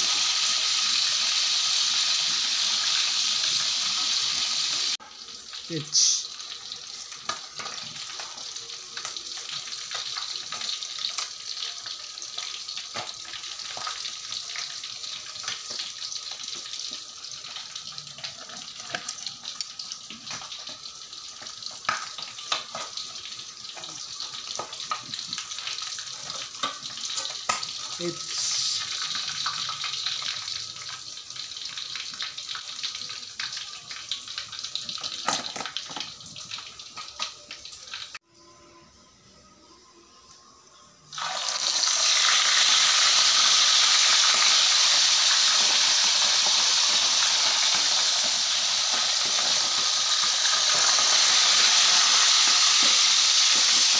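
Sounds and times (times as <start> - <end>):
fish sizzling in hot oil: 0.0 - 38.2, 41.1 - 53.9.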